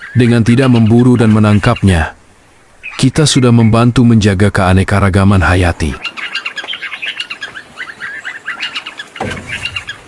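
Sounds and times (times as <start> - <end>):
small birds chirping: 0.0 - 4.2, 5.2 - 10.0.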